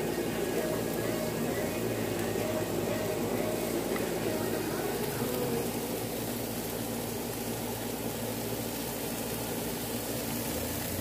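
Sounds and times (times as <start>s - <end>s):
meat sizzling on barbecue grill: 0.0s - 11.0s.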